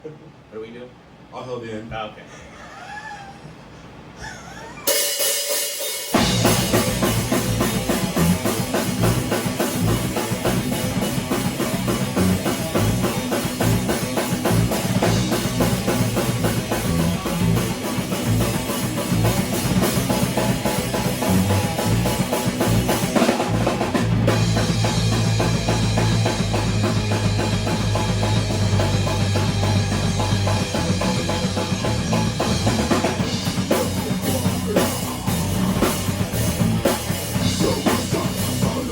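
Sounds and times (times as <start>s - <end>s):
band playing live: 4.8s - 38.9s
drum kit beat: 4.8s - 38.9s.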